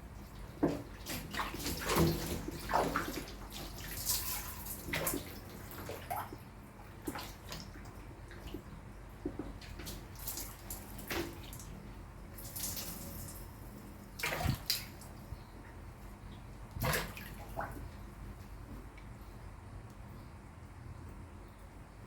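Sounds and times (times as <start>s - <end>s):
water splashing and sloshing: 0.0s - 19.5s.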